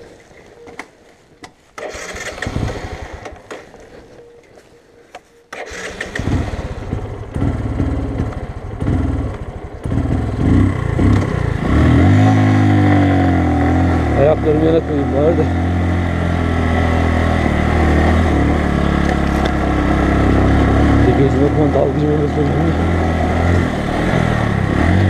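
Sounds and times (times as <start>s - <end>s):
motorcycle engine starting and revving: 1.7s - 4.7s, 5.5s - 25.0s.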